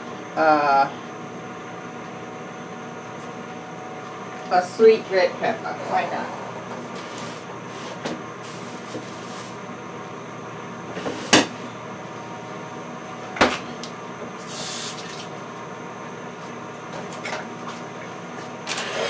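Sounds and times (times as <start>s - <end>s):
air fryer fan humming: 0.0s - 19.0s.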